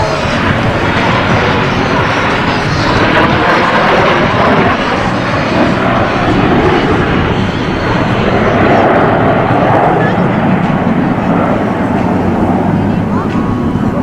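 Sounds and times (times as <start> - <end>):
jets flying overhead: 0.0 - 14.0.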